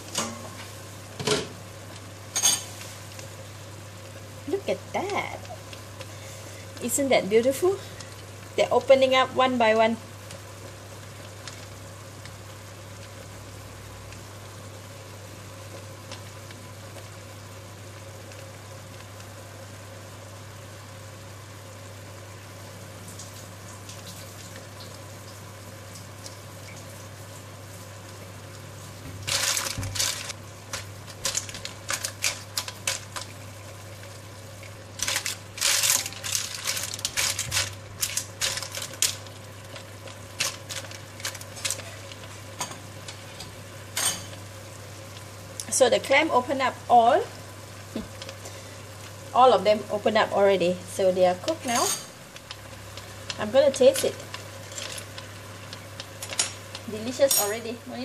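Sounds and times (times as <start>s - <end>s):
clams simmering in a wok: 0.0s - 58.0s.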